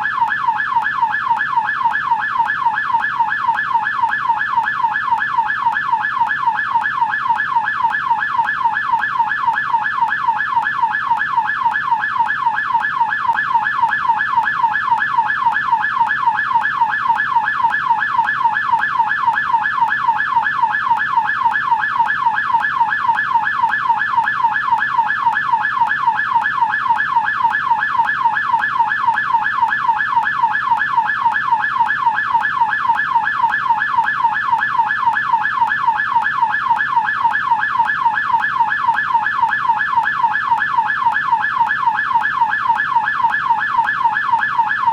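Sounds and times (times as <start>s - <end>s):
police siren yelp: 0.0s - 44.9s.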